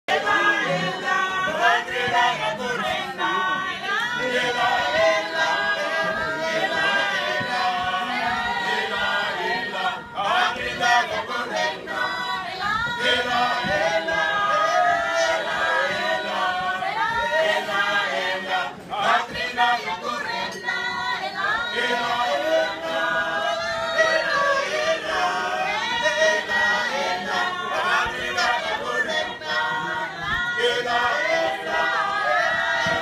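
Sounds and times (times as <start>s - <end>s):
group singing a cappella: 0.0s - 33.0s.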